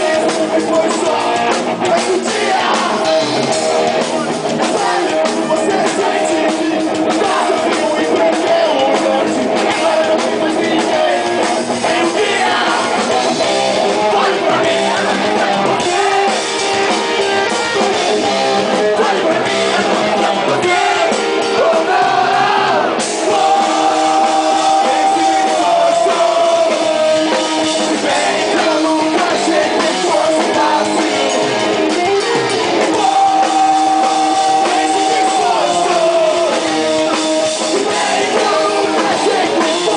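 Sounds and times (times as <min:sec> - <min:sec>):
rock music with singing: 0:00.0 - 0:39.9.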